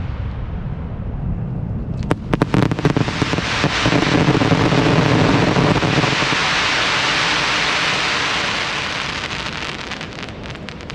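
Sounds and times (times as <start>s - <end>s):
fireworks crackling: 2.0s - 10.9s.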